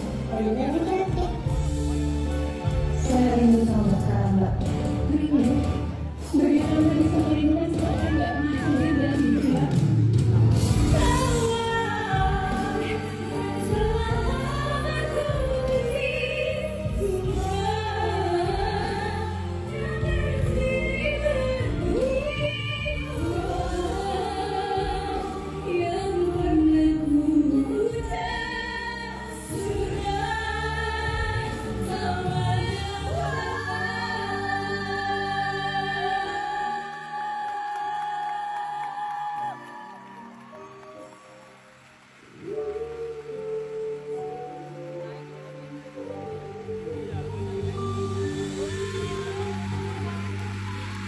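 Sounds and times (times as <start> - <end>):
women singing: 3.0 - 10.0, 10.6 - 39.8, 42.4 - 50.3.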